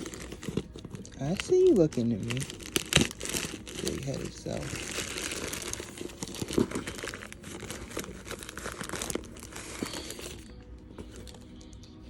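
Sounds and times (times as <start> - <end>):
packing tape peeling and tearing: 0.0 - 10.5.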